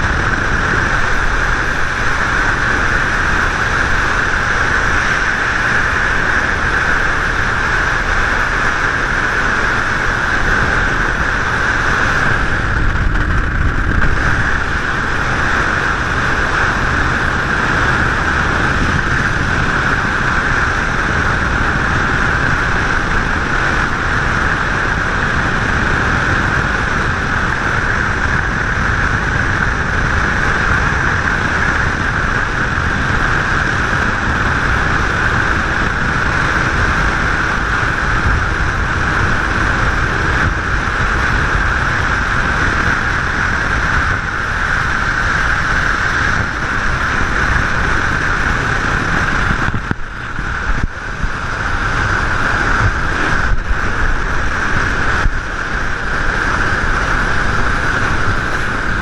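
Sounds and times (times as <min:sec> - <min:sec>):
water rushing along boat hull: 0:00.0 - 0:59.0.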